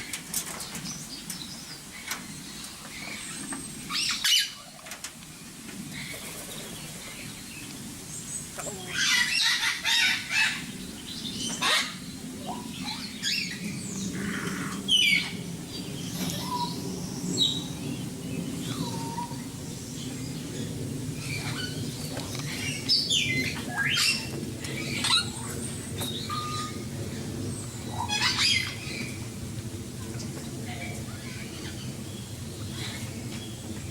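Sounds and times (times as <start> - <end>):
birds chirping and calling: 0.0 - 5.0, 5.8 - 29.3
steady low hum: 0.0 - 33.9.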